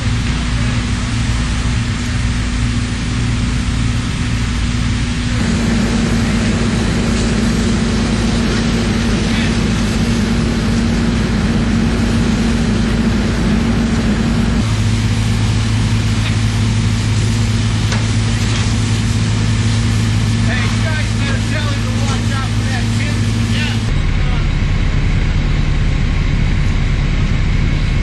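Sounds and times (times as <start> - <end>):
hose water hissing: 0.0 - 24.4
fire engine motor and pump: 0.0 - 28.0.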